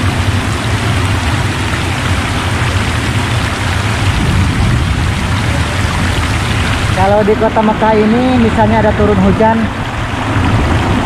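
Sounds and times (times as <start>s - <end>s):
heavy rain: 0.0s - 11.0s
low rumble: 0.0s - 11.0s
strong wind: 0.0s - 11.0s.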